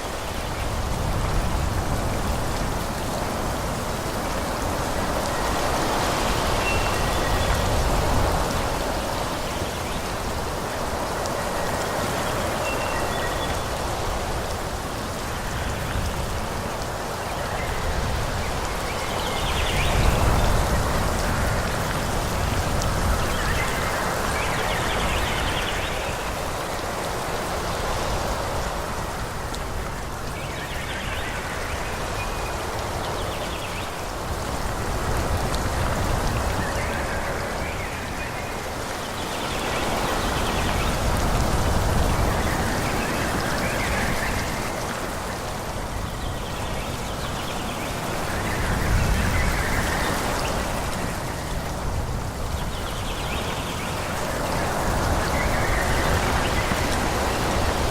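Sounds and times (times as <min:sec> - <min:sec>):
wind rustling tree leaves: 0:00.0 - 0:57.9.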